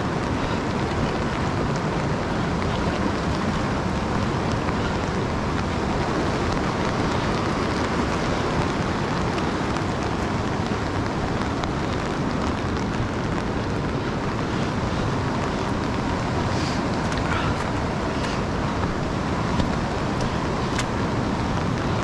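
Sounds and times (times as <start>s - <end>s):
river rushing over rapids: 0.0s - 22.0s.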